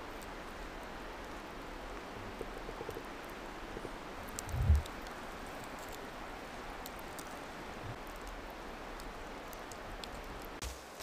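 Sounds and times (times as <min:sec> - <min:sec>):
campfire embers hissing: 0:00.0 - 0:11.0.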